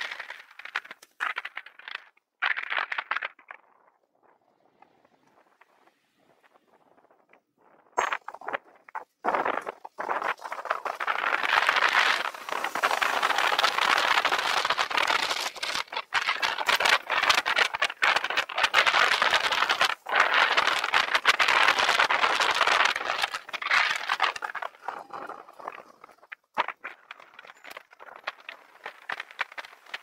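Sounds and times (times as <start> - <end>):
bicycle rattling road noise: 0.0 - 30.0.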